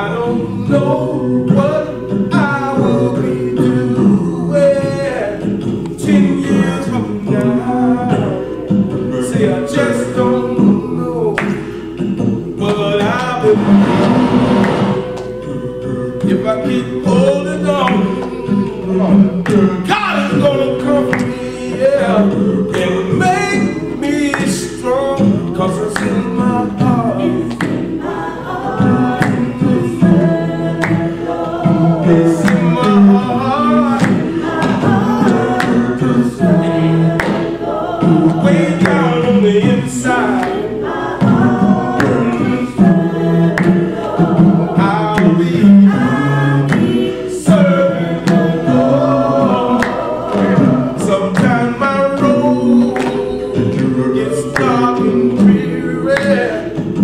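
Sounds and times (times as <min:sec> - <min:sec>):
gospel group singing a cappella: 0:00.0 - 0:57.0.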